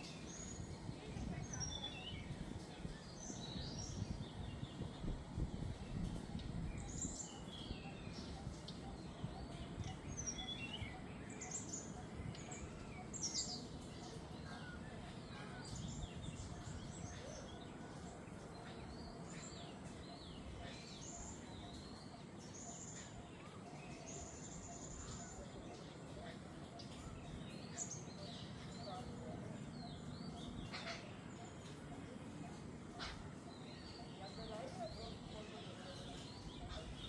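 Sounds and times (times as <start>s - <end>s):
low background hiss: 0.0s - 37.0s.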